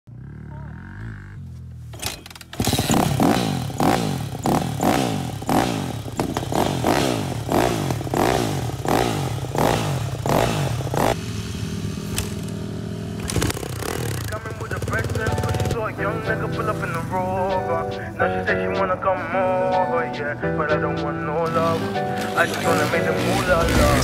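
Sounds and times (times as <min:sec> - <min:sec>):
dirt bike engine revving: 0:00.1 - 0:24.0.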